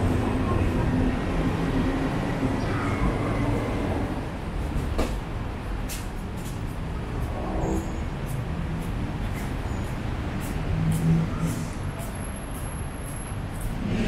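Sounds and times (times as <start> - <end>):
city traffic din: 0.0 - 14.0.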